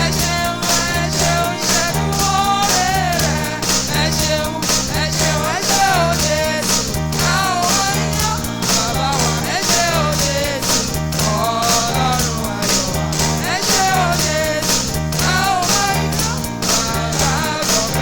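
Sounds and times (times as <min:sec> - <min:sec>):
cymbal ticks: 0:00.0 - 0:18.0
live band music: 0:00.0 - 0:18.0
repeating bass line: 0:00.0 - 0:18.0
sliding lead melody: 0:00.0 - 0:18.0.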